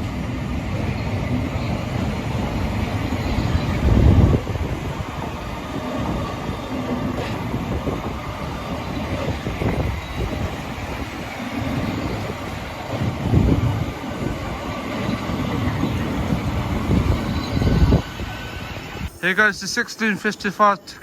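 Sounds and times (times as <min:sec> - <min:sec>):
train wheels rumbling on rails: 0:00.0 - 0:19.1.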